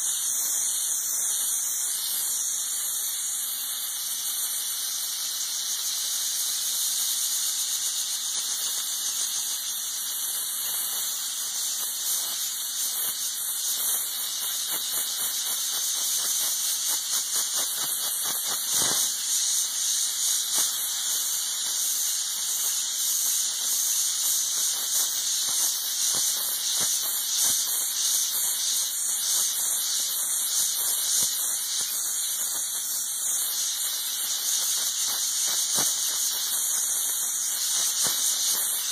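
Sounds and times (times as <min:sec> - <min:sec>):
steam cleaner hissing: 0:00.0 - 0:38.9.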